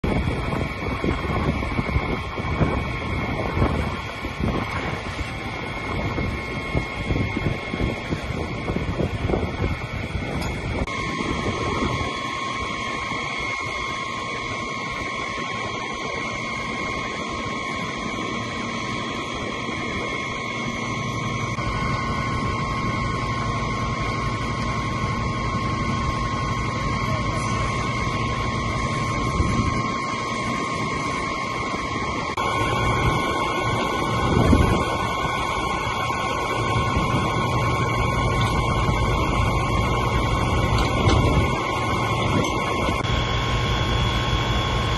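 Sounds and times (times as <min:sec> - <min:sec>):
fire engine rumble: 0:00.0 - 0:44.9
steady high tone: 0:00.0 - 0:44.9.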